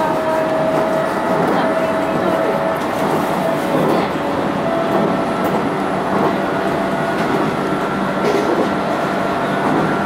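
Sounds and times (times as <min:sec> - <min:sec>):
rumble of wheels on rail: 0:00.0 - 0:10.0.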